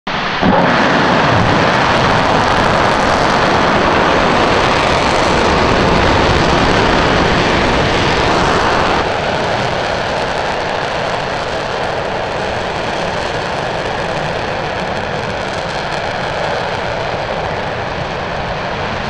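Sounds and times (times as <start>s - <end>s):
rocket engine firing: 0.2s - 19.0s.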